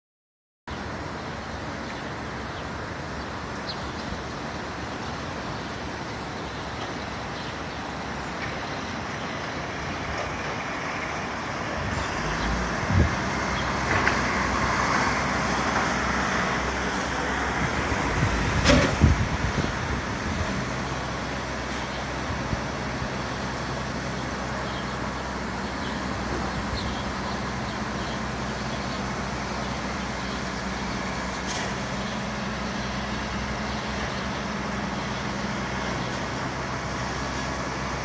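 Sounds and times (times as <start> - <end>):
steady outdoor rumble: 0.7 - 38.0.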